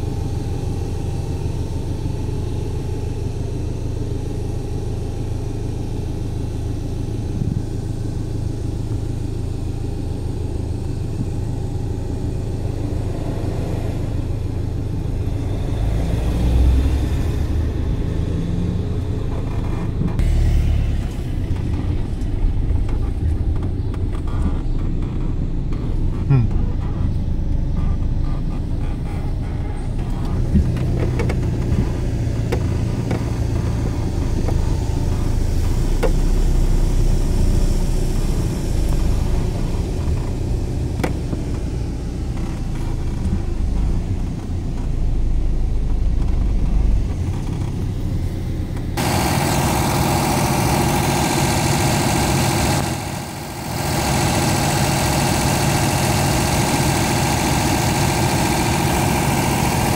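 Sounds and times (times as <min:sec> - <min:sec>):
combine harvester engine rumbling: 0:00.0 - 0:59.9
engine idling with clatter: 0:00.0 - 0:59.9.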